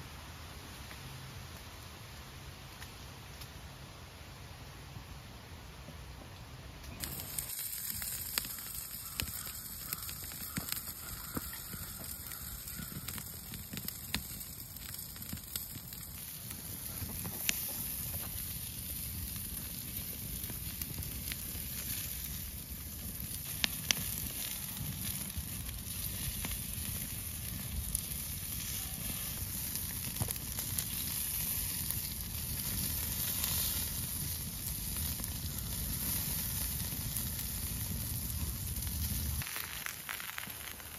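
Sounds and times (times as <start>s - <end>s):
wood fire crackling: 6.8s - 40.9s
meat sizzling: 7.0s - 40.9s.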